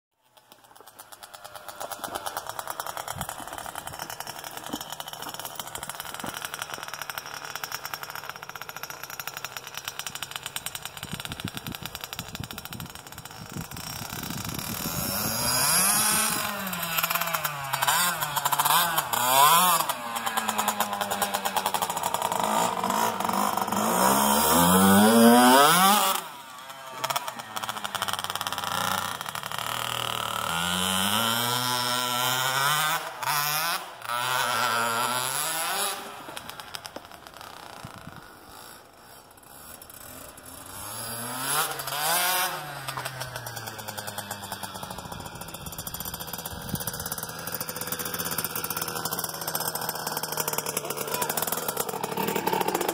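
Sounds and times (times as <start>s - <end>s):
dirt bike engine revving: 0.7s - 52.9s.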